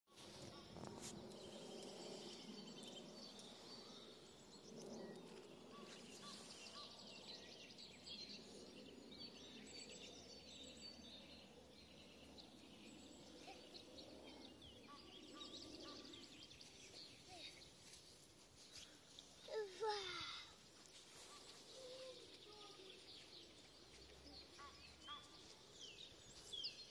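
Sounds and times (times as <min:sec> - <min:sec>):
small birds chirping: 0:00.1 - 0:26.9.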